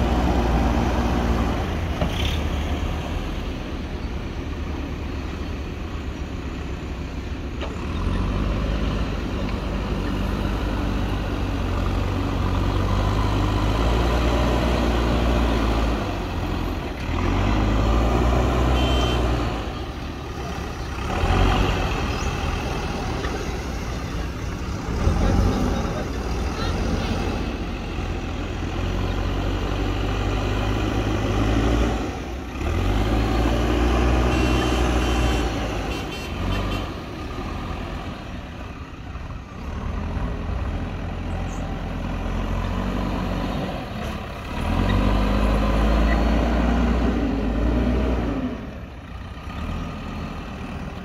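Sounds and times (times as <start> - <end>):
diesel engines labouring: 0.0 - 51.0.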